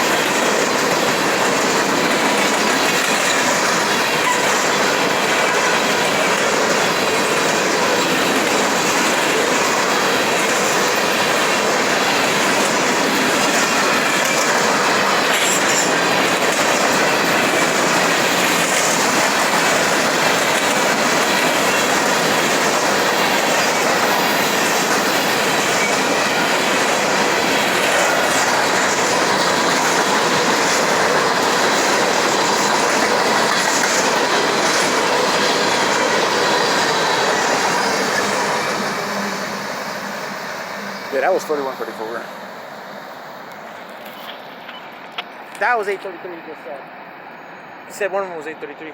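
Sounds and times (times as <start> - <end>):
train wheels rolling on rails: 0.0 - 48.9.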